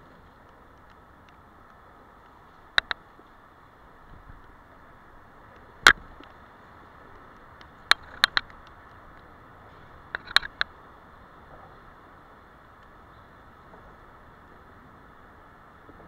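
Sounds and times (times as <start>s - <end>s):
bicycle tyres hissing on wet street: 0.0s - 16.0s.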